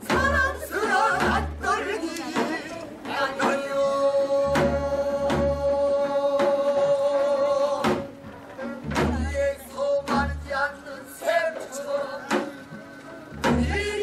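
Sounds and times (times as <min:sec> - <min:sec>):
low drum beats: 0:00.0 - 0:14.0.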